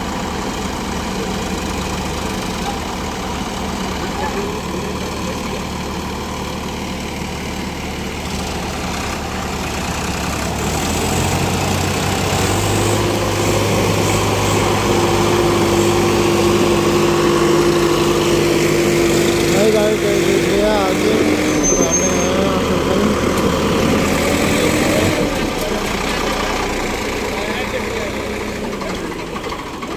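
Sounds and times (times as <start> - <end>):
tractor diesel engines under load: 0.0 - 29.9.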